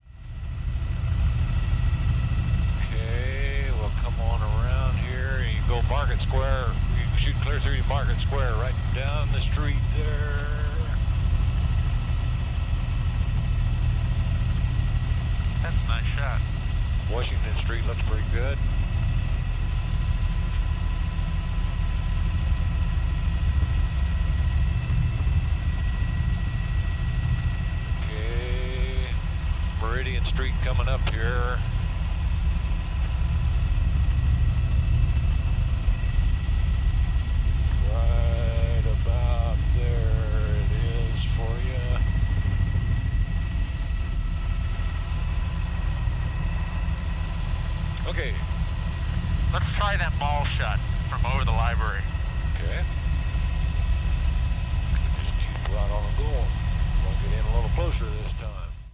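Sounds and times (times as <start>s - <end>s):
helicopter engine and rotor rumble: 0.0s - 58.9s
faint thin whine: 0.2s - 58.8s.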